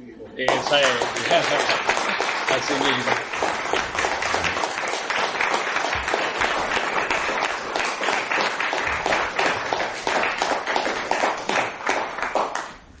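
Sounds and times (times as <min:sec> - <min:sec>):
applause: 0:00.4 - 0:13.0.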